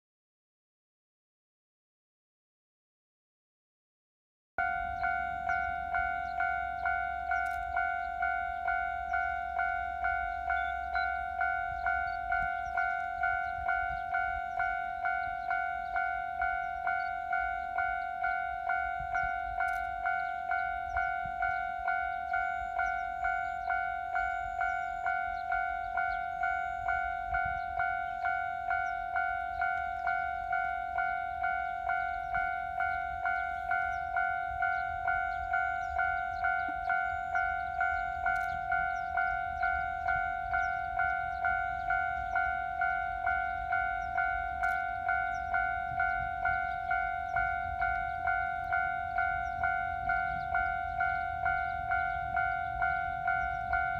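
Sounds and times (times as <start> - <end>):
level-crossing warning bell ringing: 4.6 - 53.9.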